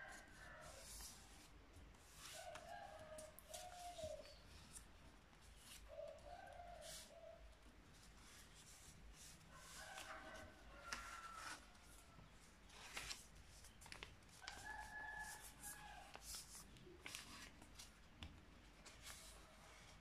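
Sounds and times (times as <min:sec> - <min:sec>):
paper being folded and creased: 0:00.1 - 0:07.2, 0:07.9 - 0:20.0.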